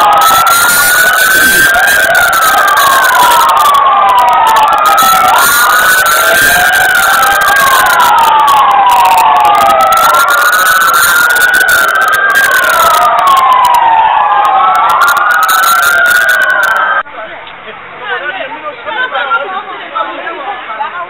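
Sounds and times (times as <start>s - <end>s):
emergency sirens wailing: 0.0s - 17.4s.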